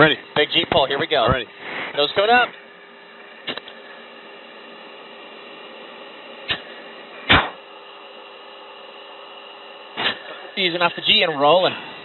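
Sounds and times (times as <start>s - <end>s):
intercom hiss and hum: 0.0s - 12.0s.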